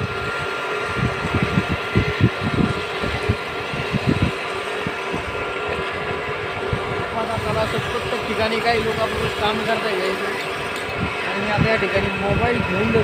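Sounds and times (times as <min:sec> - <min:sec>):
water pump motors humming: 0:00.0 - 0:13.0
wind buffeting microphone: 0:00.0 - 0:13.0.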